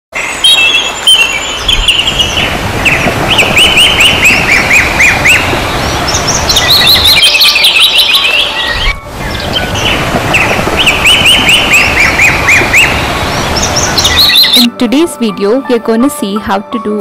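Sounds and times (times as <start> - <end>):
songbirds chirping: 0.2 - 14.8.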